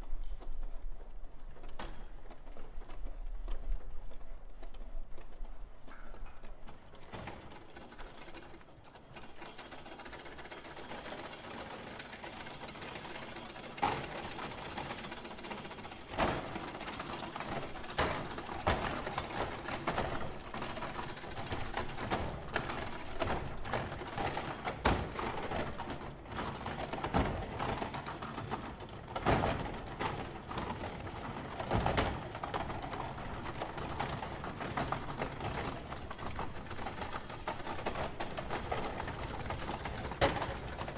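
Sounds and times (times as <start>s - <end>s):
foosball rods and figures clattering: 5.4s - 40.9s.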